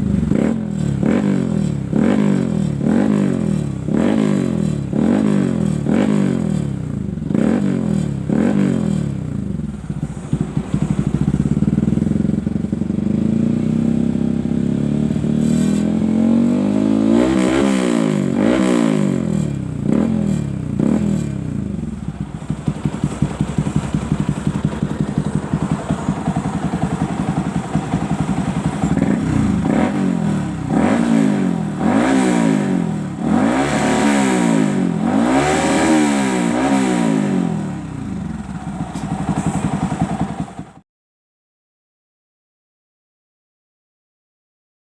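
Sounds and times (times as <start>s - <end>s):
motorcycle engine revving: 0.0s - 40.8s.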